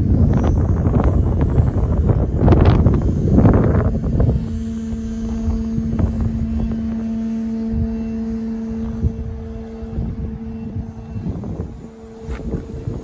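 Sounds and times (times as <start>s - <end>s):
electric motor and propeller humming: 0.0s - 13.0s
wind rumbling on microphone: 0.0s - 13.0s.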